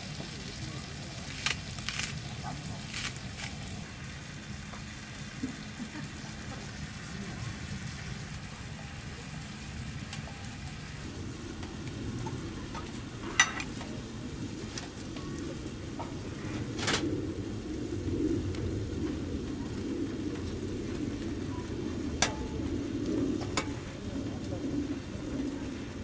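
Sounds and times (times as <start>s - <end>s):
duck sizzling in a frying pan: 0.0s - 26.0s.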